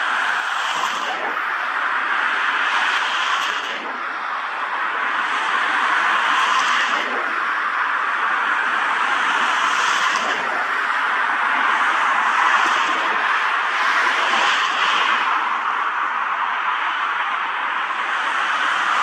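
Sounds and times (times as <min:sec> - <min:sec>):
jet engines running: 0:00.0 - 0:16.8.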